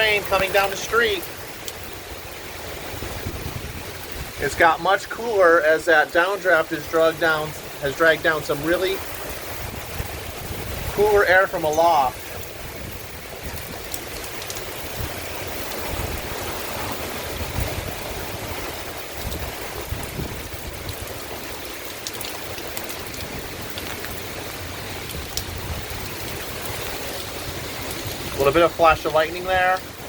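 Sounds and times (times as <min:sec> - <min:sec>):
heavy rain pouring: 0:00.0 - 0:30.0
wind buffeting microphone: 0:01.4 - 0:05.4, 0:07.2 - 0:30.0.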